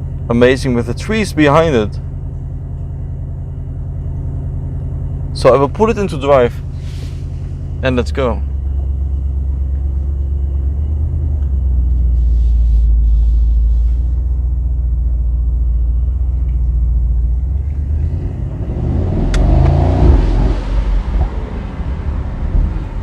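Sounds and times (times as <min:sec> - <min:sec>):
car engine rumbling and accelerating: 0:00.0 - 0:23.0.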